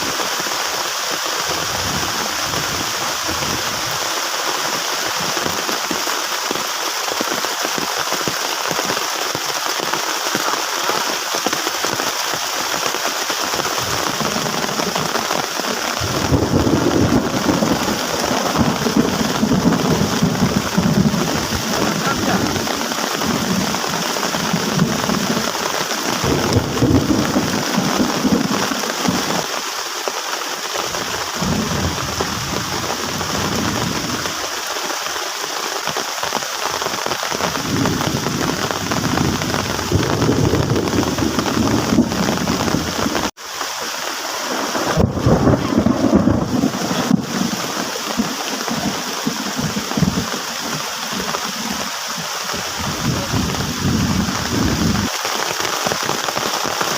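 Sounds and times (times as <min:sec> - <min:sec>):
heavy rain drumming on tarp: 0:00.0 - 0:56.9.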